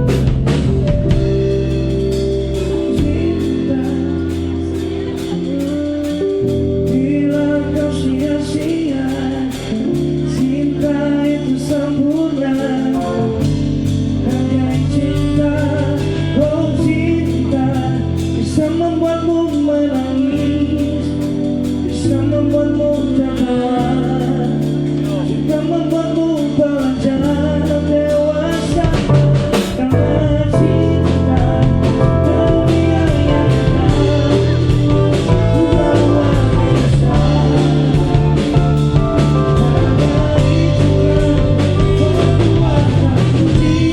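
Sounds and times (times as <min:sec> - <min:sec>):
live band playing: 0:00.0 - 0:43.9
person singing: 0:00.0 - 0:43.9.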